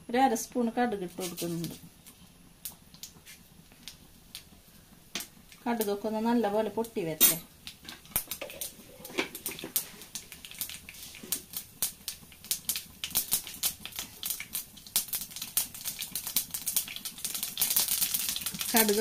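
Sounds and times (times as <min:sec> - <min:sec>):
seeds popping in hot oil: 0:00.4 - 0:19.0.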